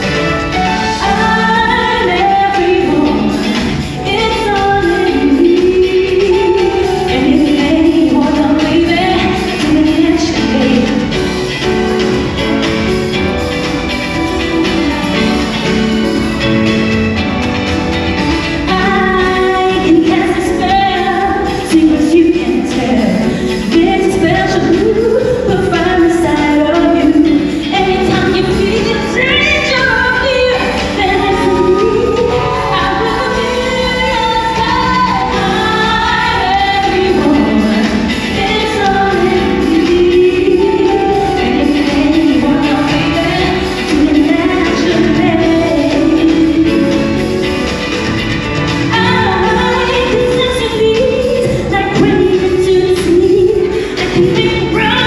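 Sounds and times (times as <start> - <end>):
musical accompaniment: 0.0 - 55.0
woman singing into a microphone: 0.8 - 11.6, 18.6 - 47.3, 48.8 - 55.0.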